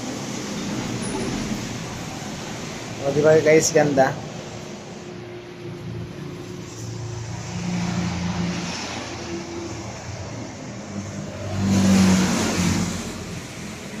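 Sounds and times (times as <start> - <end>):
vehicle engine passing: 0.0 - 14.0.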